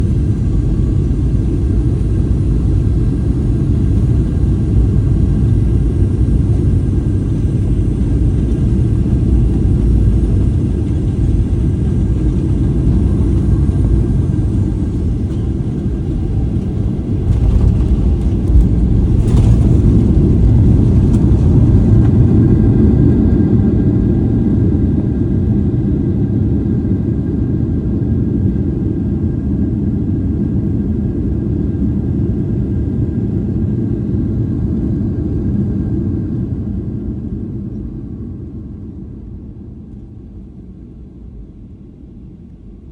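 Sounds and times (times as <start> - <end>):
airplane engine and airflow rumble: 0.0 - 42.9.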